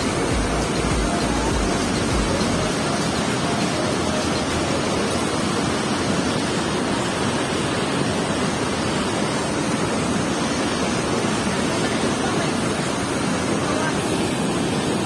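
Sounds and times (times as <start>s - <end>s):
water rushing over boulders: 0.0s - 15.0s.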